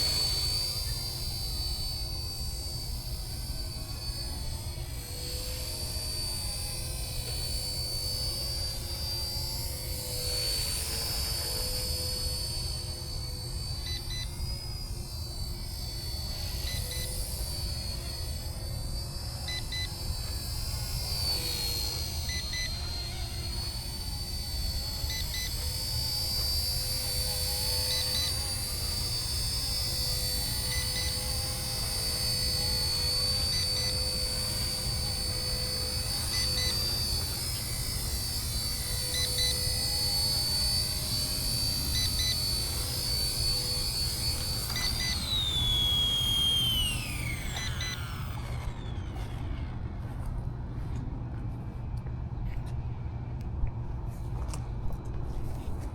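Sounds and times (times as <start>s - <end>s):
model helicopter motor whine: 0.0s - 51.3s.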